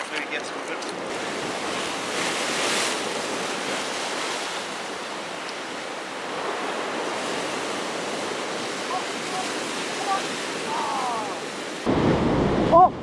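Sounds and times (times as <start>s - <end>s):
ocean surf on rocks: 0.0s - 13.0s.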